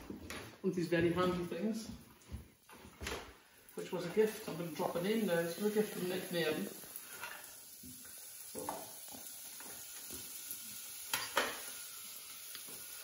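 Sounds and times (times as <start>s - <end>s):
faint sizzle from pan: 2.5s - 13.0s.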